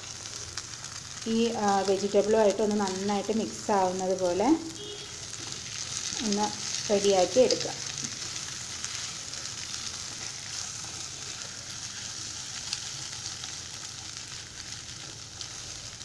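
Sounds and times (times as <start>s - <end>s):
eggs sizzling in pan: 0.0s - 16.0s.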